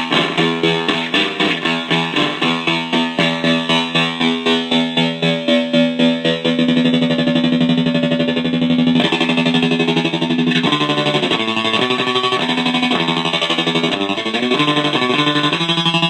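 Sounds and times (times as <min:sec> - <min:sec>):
electric guitar with tremolo pulsing: 0:00.0 - 0:16.0.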